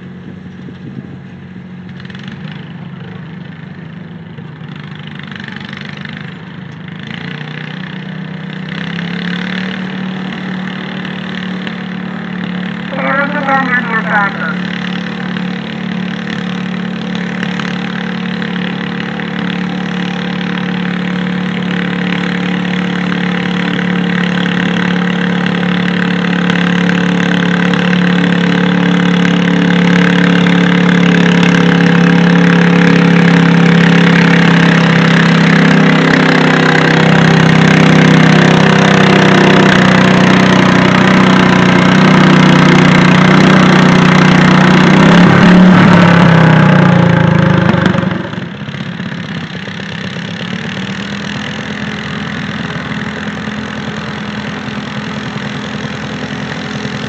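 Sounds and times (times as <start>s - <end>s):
tractor engine running hard: 0.0s - 57.0s.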